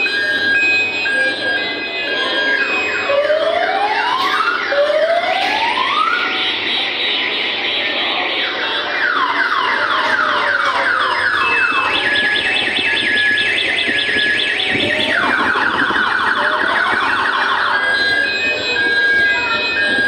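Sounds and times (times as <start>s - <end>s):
electronic siren sound effects: 0.0s - 20.0s.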